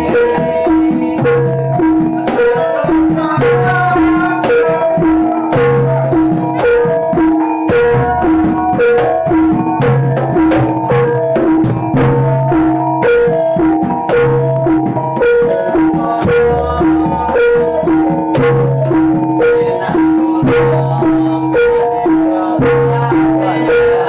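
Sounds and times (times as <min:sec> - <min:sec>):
drums in a busy rhythm: 0:00.0 - 0:24.0
tuned gongs ringing melody: 0:00.0 - 0:24.0.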